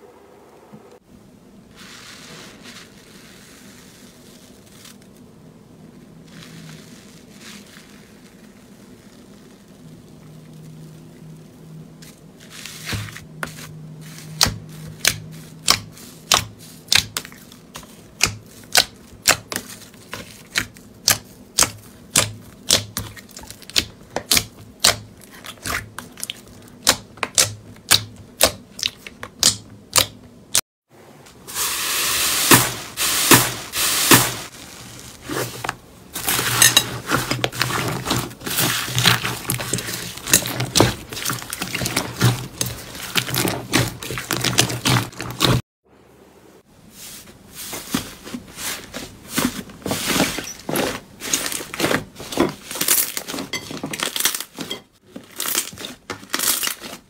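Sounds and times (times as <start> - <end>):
slime crackling and crunching: 1.8 - 5.2, 6.1 - 30.1, 33.3 - 45.6, 50.0 - 57.0.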